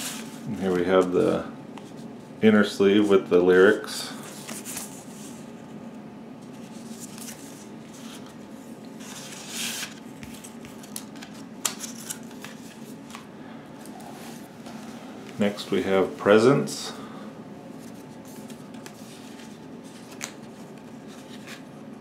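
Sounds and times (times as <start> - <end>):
paper and card rustling: 0.0 - 2.1, 2.9 - 5.6, 6.4 - 16.6, 17.7 - 21.8
faint steady hum: 0.0 - 22.0.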